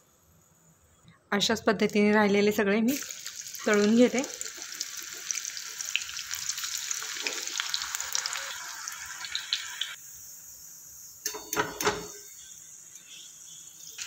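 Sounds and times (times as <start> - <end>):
oil sizzling and crackling: 1.8 - 14.0.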